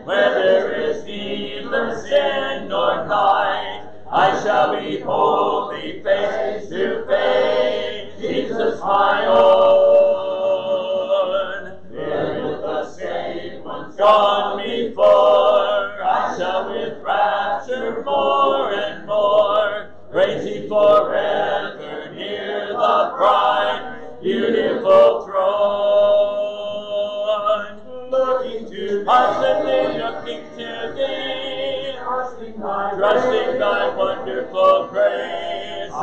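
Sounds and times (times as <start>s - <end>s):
congregation singing a hymn: 0.0s - 36.0s.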